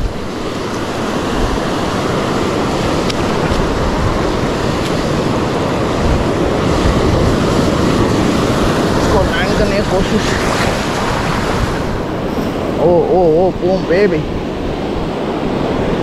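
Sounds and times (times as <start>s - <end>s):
surf breaking over rocks: 0.0s - 16.0s
wind rumbling on microphone: 0.0s - 16.0s.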